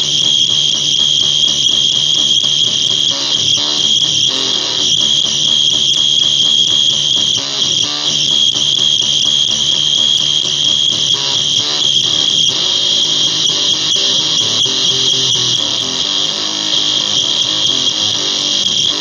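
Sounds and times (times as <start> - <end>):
electric guitar notes: 0.0 - 19.0
high-pitched pedal whine: 0.0 - 19.0.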